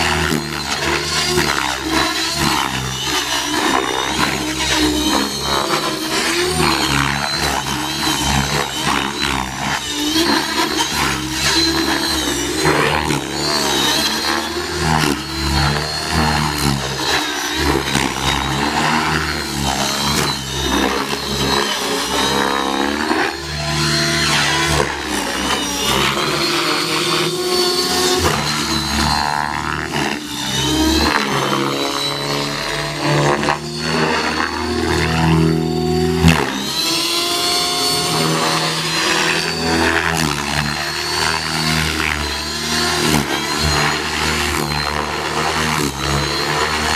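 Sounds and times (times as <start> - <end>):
rc helicopter rotor whine: 0.0 - 46.9.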